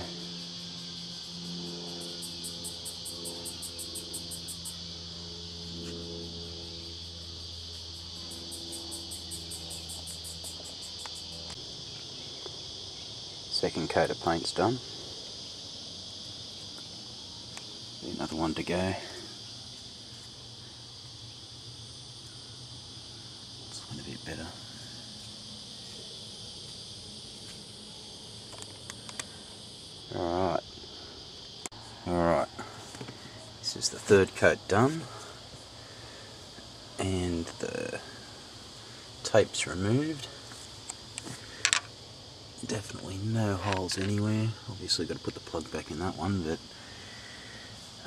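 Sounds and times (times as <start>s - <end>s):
insects buzzing: 0.0s - 48.0s
pulsed insect chirp: 0.0s - 48.0s.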